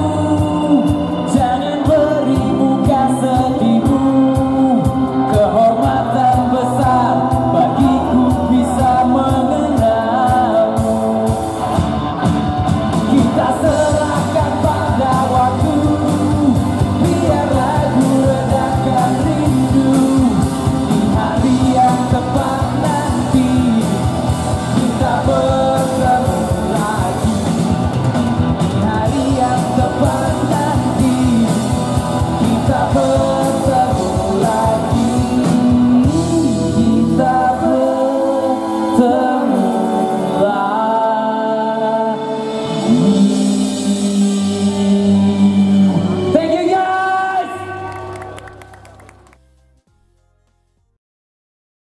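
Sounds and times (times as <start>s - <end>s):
person singing: 0.0s - 28.0s, 28.6s - 49.2s
live pop-rock band: 0.0s - 49.4s.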